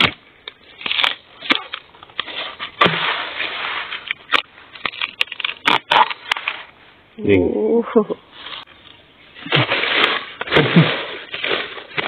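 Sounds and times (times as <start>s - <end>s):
bamboo crunching and rustling: 0.0s - 6.8s, 8.4s - 12.0s.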